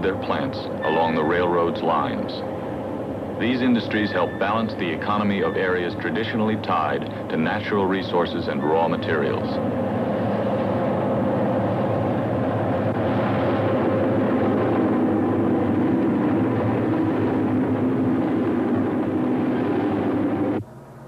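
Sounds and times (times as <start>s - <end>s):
train rumbling drone: 0.0s - 21.0s.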